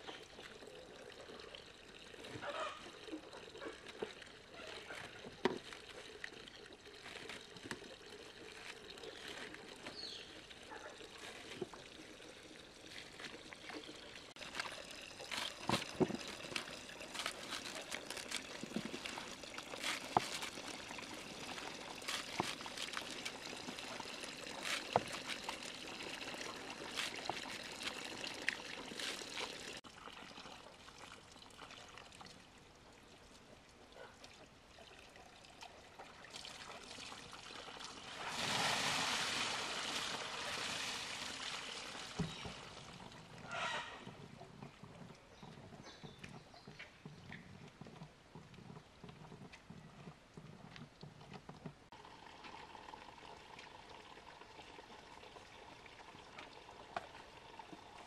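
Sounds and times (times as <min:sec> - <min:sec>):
water trickling and pouring: 0:00.0 - 0:47.8, 0:50.4 - 0:58.0.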